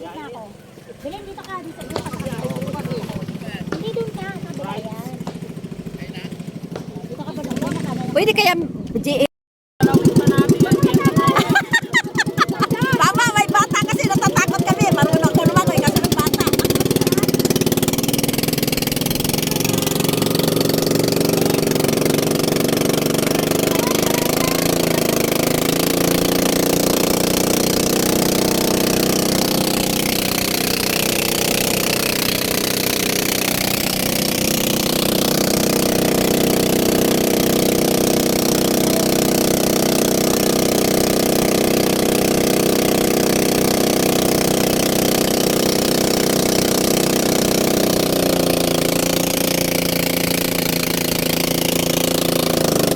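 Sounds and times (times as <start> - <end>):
small engine running: 1.6 - 8.8, 9.8 - 52.9.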